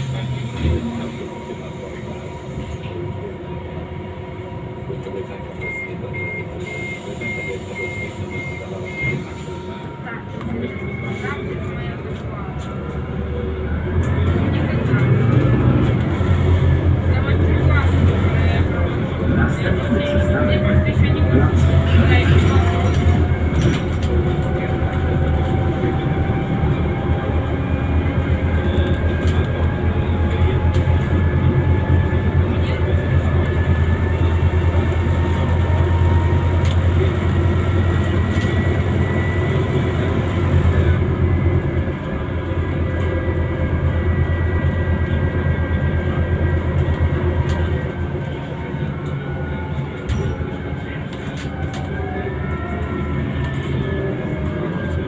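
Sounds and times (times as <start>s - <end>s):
bus engine drone: 0.0s - 55.0s.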